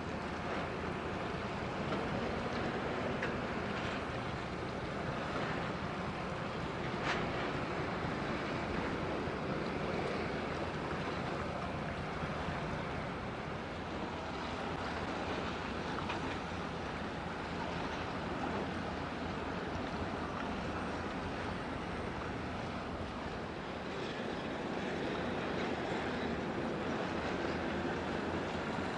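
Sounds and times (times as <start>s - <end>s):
ship engine low rumble: 0.0s - 28.9s
waves washing: 0.0s - 28.9s.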